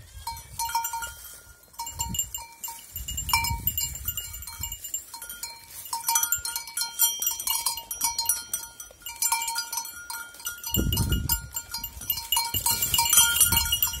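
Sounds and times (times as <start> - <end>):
goats chewing leaves and twigs: 0.0 - 14.0.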